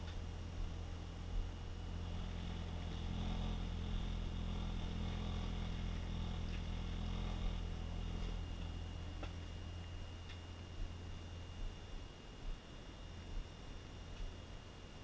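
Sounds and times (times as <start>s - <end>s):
low motor hum: 0.0s - 15.0s
thin high whine: 0.0s - 15.0s.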